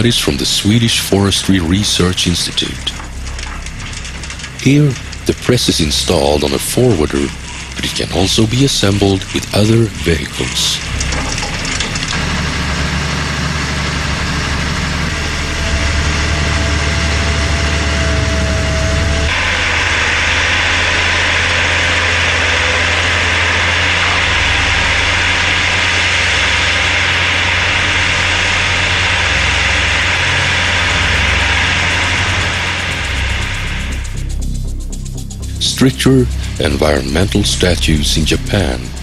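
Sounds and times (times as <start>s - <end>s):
diesel engine running: 0.0s - 39.0s
loud even hiss: 0.0s - 39.0s
steady whine: 0.0s - 39.0s.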